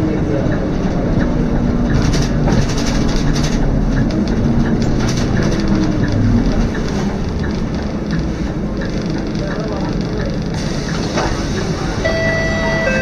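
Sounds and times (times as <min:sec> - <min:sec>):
bus body rattling: 0:00.0 - 0:12.8
bus diesel engine droning: 0:00.0 - 0:13.0.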